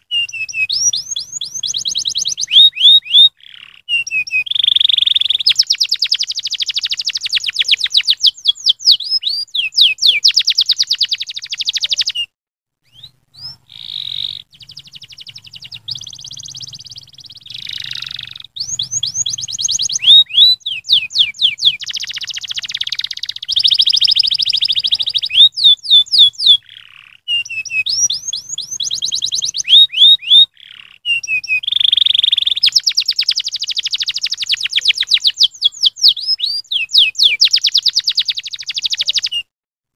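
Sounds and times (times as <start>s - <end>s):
canary singing trills: 0.0s - 39.5s.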